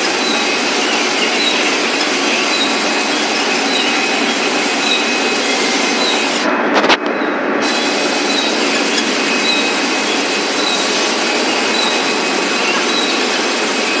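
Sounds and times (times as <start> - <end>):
metal gripper chain running: 0.0 - 6.4, 7.6 - 14.0
machinery running steadily: 0.0 - 14.0.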